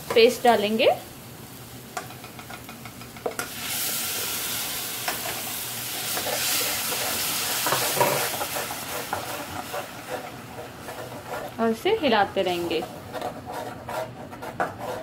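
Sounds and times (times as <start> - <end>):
loud sizzle in pan: 0.0 - 13.3.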